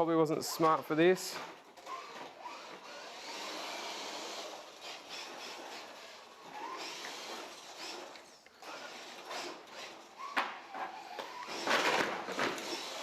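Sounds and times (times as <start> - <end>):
rc car motor whirring: 1.8 - 13.0.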